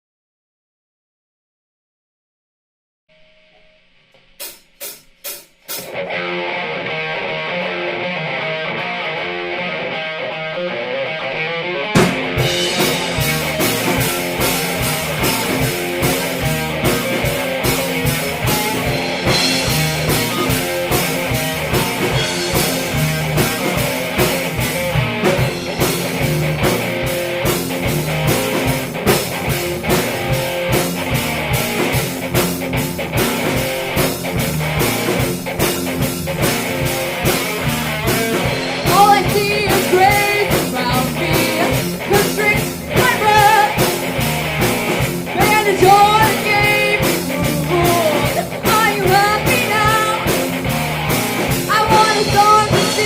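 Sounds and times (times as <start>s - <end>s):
guitar playing: 3.1s - 53.0s
rock band playing: 3.2s - 53.0s.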